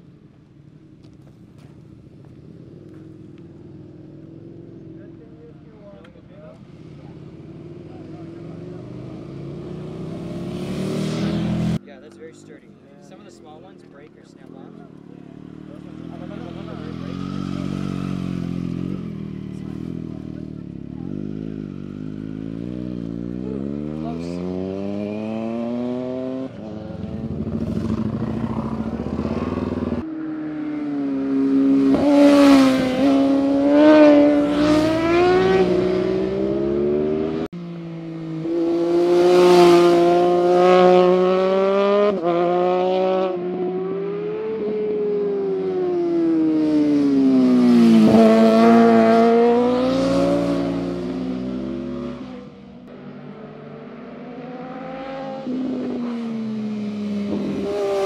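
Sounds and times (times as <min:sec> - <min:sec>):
motorcycle engines revving past: 0:00.7 - 0:58.0.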